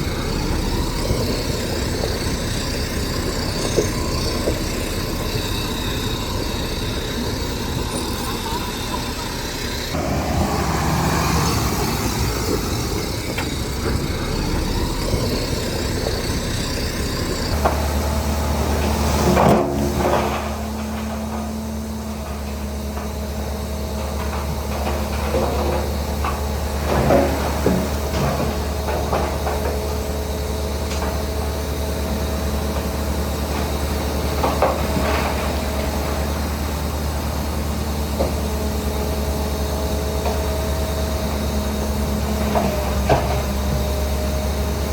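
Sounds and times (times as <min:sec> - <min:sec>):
diesel engine droning: 0:00.0 - 0:44.9
machinery knocks and clanks: 0:00.0 - 0:44.9.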